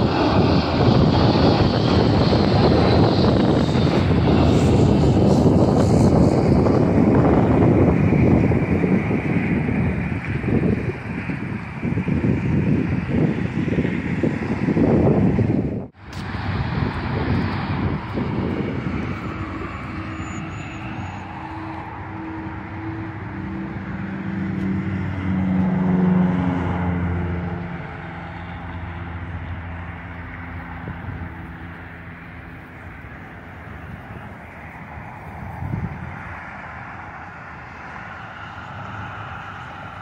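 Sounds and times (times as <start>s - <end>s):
aircraft passing overhead: 0.0s - 40.0s.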